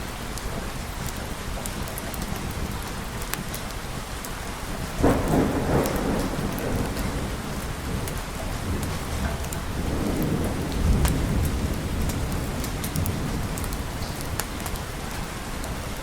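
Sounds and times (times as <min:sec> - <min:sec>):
heavy rain: 0:00.0 - 0:16.0
thunder clap rumbling: 0:01.2 - 0:16.0.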